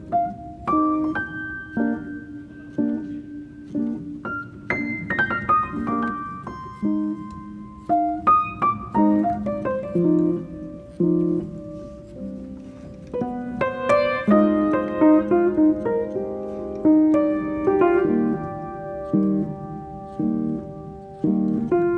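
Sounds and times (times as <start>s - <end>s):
gentle piano music: 0.0s - 21.9s.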